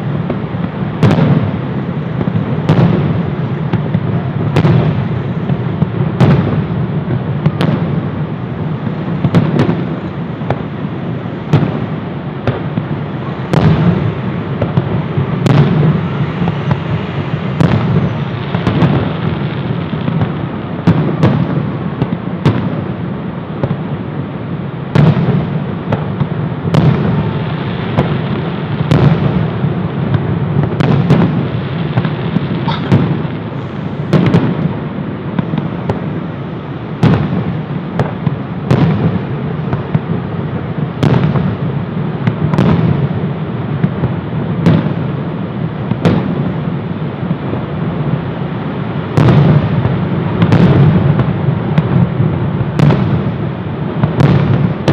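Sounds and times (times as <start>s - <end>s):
continuous low rumble: 0.0s - 54.9s
fireworks bursting: 0.0s - 54.9s.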